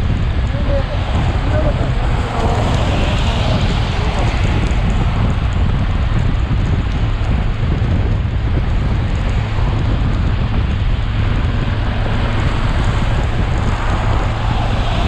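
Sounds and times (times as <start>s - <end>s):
motorcycle and road rumble: 0.0s - 15.0s
wind noise on microphone: 0.0s - 15.0s.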